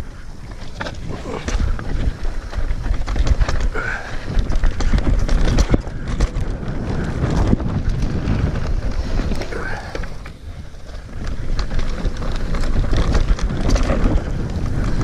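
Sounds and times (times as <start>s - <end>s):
bike rattling over stones: 0.0s - 15.0s
wind rumble on microphone: 0.0s - 15.0s.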